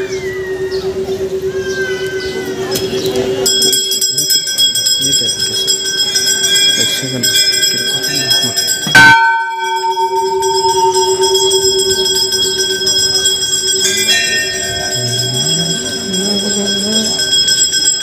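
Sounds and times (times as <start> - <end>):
low rising melody: 0.0 - 4.2, 5.3 - 17.2
large brass bell ringing: 0.0 - 18.0.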